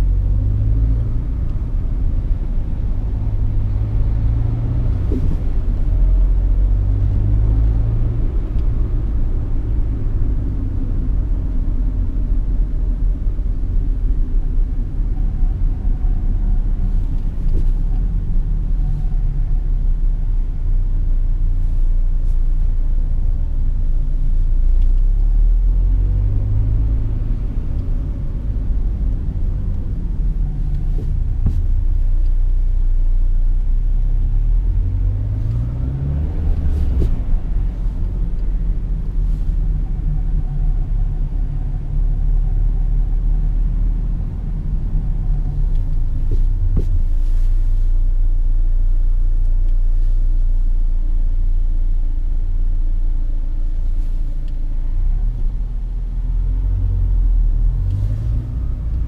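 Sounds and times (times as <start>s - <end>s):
car engine accelerating: 0.0s - 20.2s, 24.4s - 32.8s, 33.9s - 50.2s, 53.6s - 59.0s
road rumble: 0.0s - 59.0s.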